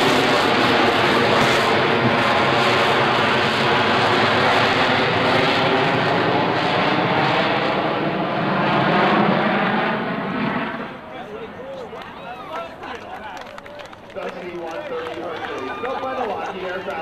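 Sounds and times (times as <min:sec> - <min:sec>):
turboprop aircraft roaring overhead: 0:00.0 - 0:17.0.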